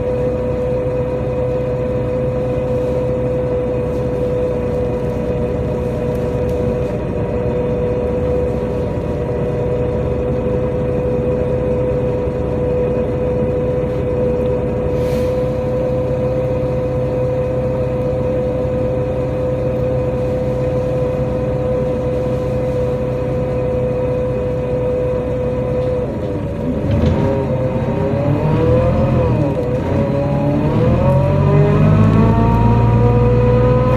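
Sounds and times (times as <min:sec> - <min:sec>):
bus engine and road hum: 0:00.0 - 0:33.9
bus whine: 0:00.0 - 0:33.9.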